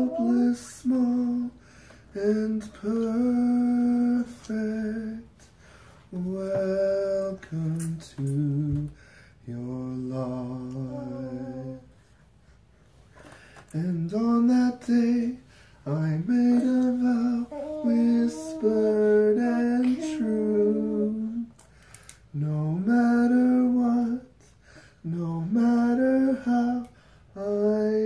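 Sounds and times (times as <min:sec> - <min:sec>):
man singing lullaby: 0:00.0 - 0:12.0, 0:13.6 - 0:21.6, 0:22.2 - 0:28.0.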